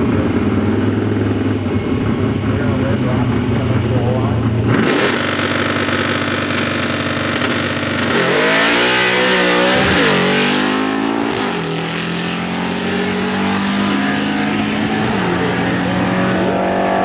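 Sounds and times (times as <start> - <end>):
drag racing cars launching: 0.0 - 17.0.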